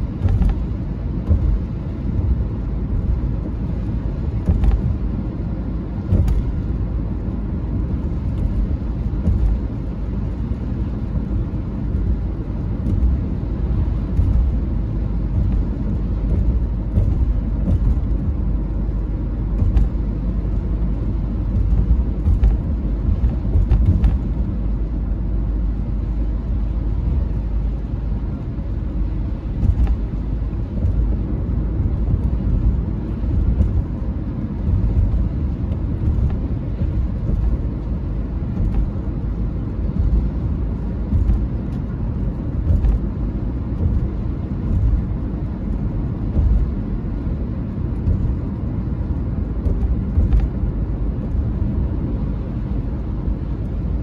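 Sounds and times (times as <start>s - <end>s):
car on wet road rumble: 0.0s - 54.0s.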